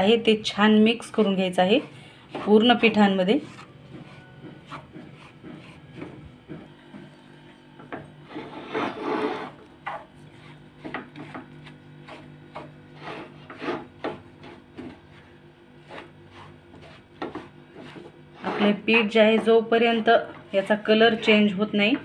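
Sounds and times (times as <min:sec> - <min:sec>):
wooden spatula scraping pan: 0:00.0 - 0:06.7, 0:08.2 - 0:22.0
steady low hum: 0:00.0 - 0:22.0.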